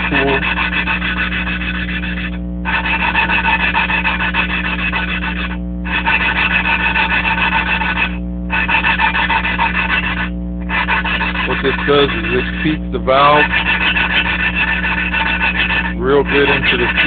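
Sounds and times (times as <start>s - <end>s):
valve lapping gritty rasping: 0.0s - 17.0s.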